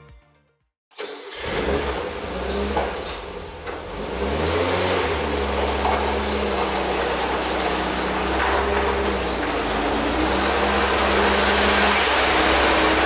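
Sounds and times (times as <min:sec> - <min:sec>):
van engine running at low speed: 0:01.4 - 0:13.0.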